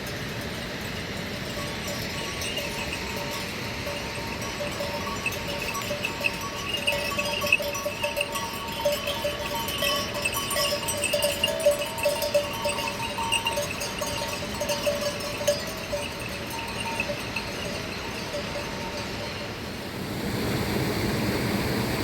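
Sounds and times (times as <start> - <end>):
livestock bells clanking: 0.0 - 19.6.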